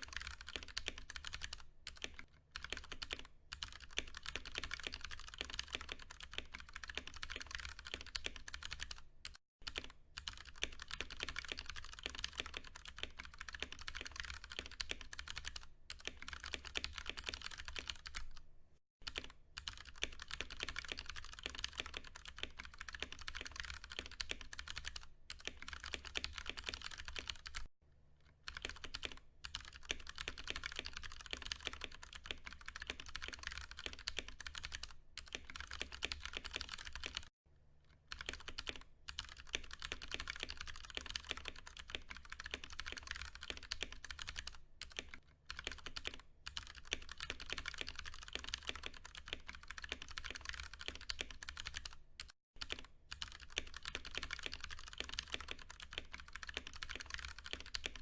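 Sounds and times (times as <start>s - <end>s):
fast mechanical keyboard typing: 0.0s - 18.4s, 19.0s - 27.7s, 28.5s - 37.3s, 38.1s - 58.0s.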